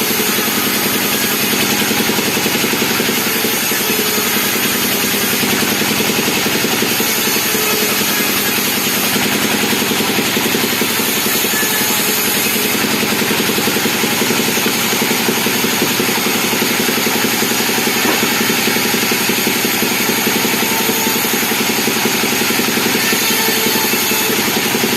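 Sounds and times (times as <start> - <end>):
chainsaw engine running: 0.0 - 24.9.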